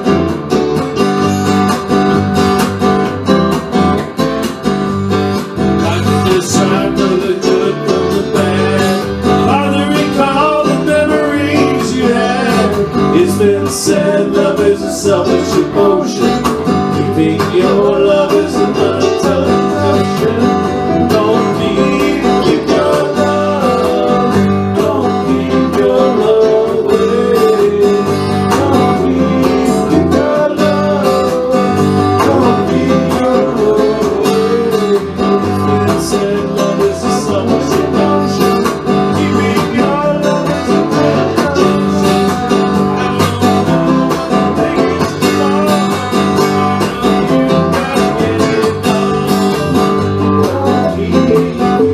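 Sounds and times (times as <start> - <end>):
country acoustic guitar music: 0.0 - 51.9.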